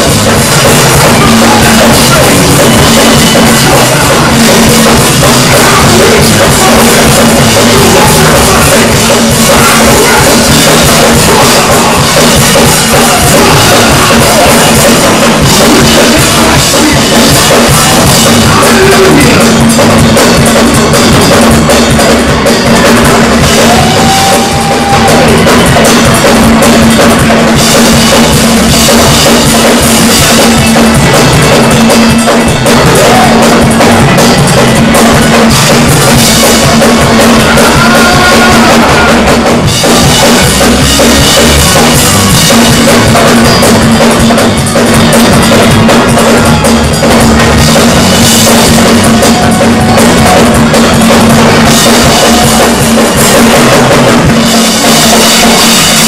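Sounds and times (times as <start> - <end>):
drum kit beat: 0.0 - 56.0
gospel band playing: 0.0 - 56.0.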